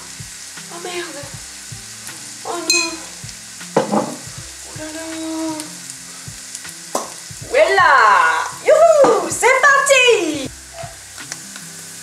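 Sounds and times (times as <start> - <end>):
shallots sizzling in butter: 0.0 - 12.0.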